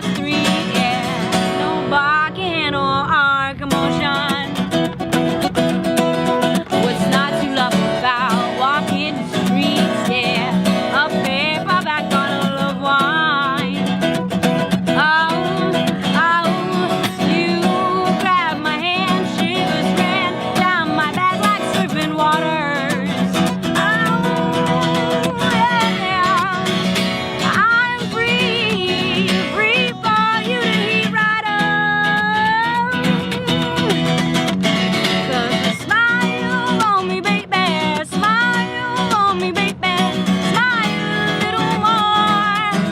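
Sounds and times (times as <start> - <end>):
woman singing: 0.0 - 5.0, 6.2 - 34.3, 34.9 - 42.9
acoustic guitar: 0.0 - 42.9.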